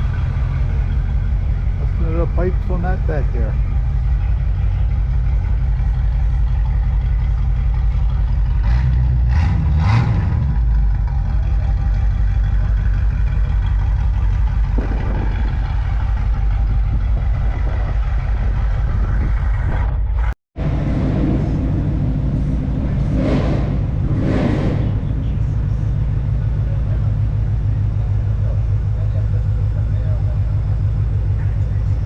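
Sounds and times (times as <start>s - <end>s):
engine revving: 0.0s - 29.2s
car engine idling loudly: 0.0s - 32.0s.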